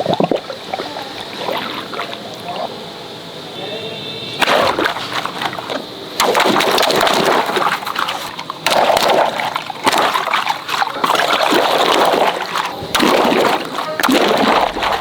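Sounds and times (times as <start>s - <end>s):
water splashing and sloshing: 0.0s - 3.0s, 4.4s - 15.0s.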